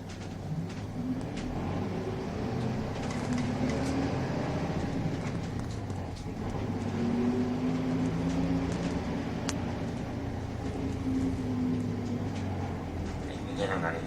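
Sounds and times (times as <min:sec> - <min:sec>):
bus diesel engine revving: 0:00.0 - 0:14.0
road noise: 0:00.0 - 0:14.0.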